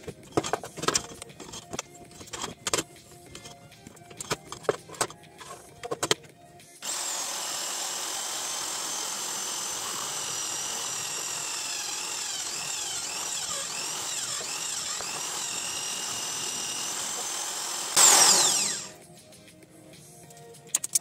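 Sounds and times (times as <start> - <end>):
electric drill boring into metal: 0.2 - 5.6, 6.8 - 19.0.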